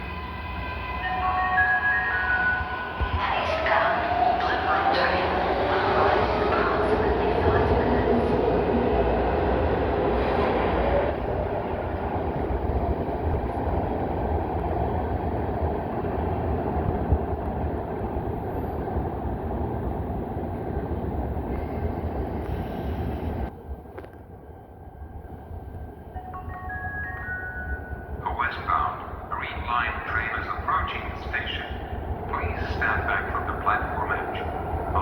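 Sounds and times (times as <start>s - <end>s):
train running on rails: 0.0s - 35.0s.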